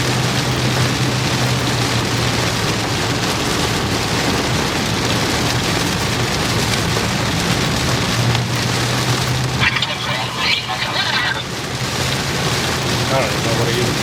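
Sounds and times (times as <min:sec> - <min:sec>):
heavy rain on vehicle roof: 0:00.0 - 0:14.0
road and engine drone: 0:00.0 - 0:14.0.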